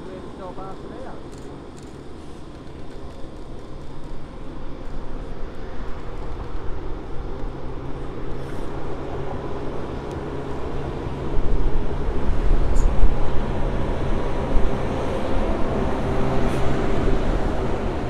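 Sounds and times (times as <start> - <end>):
diesel locomotives engine drone: 0.0 - 18.0.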